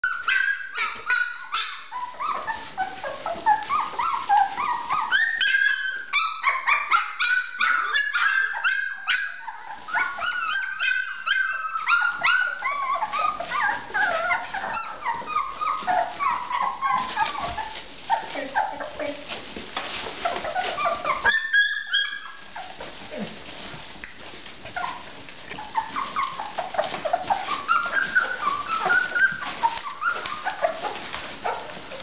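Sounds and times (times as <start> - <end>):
puppies crying and whimpering: 0.0 - 32.0.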